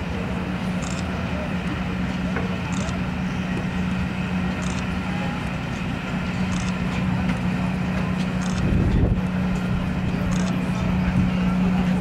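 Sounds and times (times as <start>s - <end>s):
train coaches rumbling past: 0.0s - 12.0s.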